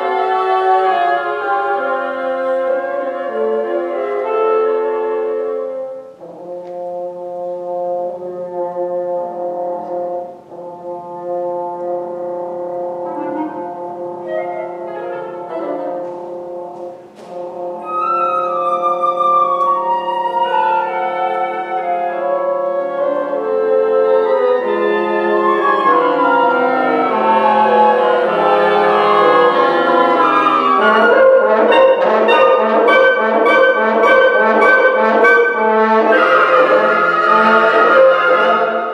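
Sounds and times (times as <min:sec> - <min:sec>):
woodwind quintet playing: 0:00.0 - 0:38.9.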